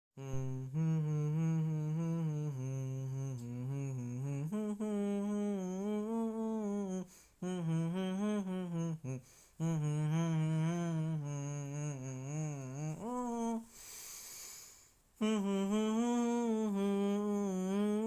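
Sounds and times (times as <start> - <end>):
person humming a tune: 0.2 - 18.0.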